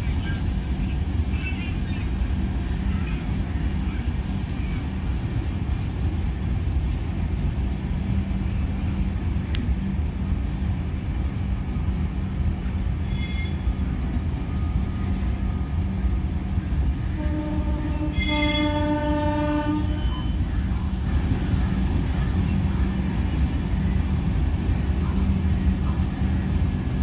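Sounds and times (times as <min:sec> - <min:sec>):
train coaches rumbling on track: 0:00.0 - 0:27.0.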